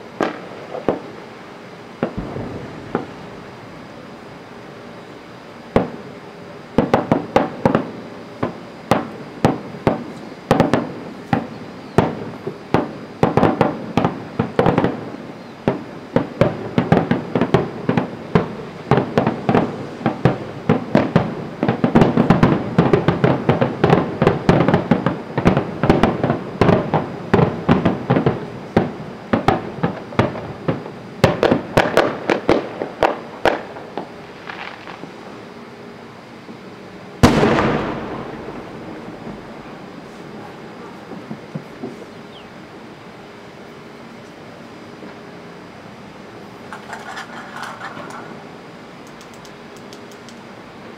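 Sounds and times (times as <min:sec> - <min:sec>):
fireworks bursting: 0:00.0 - 0:43.4, 0:46.4 - 0:48.6.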